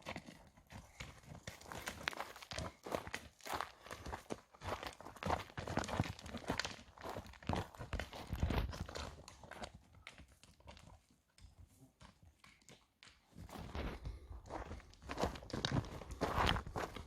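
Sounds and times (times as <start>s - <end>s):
horse hooves walking: 0.0s - 17.0s
person's footsteps: 0.0s - 17.0s.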